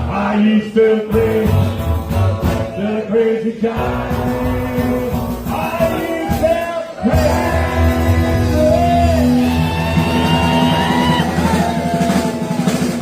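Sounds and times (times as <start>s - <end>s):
rock band playing: 1.1s - 3.0s, 3.7s - 13.0s.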